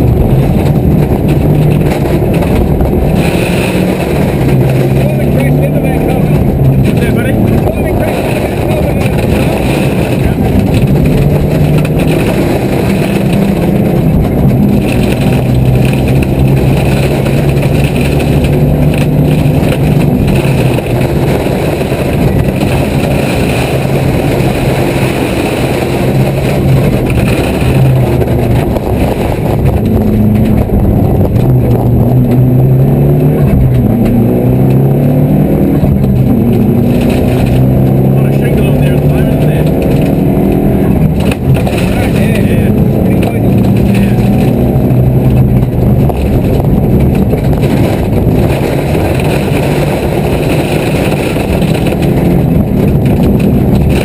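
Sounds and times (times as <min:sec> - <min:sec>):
car engine revving through gears: 0:00.0 - 0:54.0
road noise: 0:00.0 - 0:54.0.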